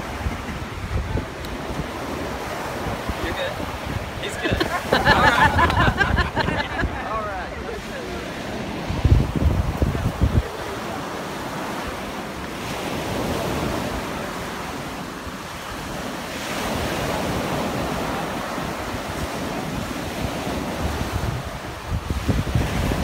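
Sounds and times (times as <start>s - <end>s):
surf breaking on sandy beach: 0.0s - 23.0s
wind buffeting microphone: 0.0s - 23.0s.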